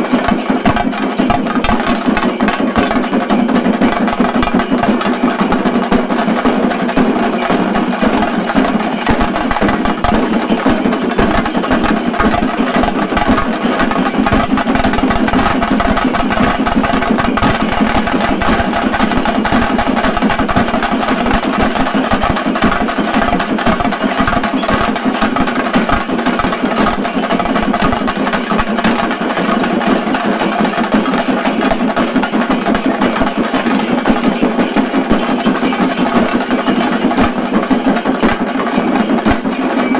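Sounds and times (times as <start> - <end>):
drums with fast stick strokes: 0.0 - 39.9.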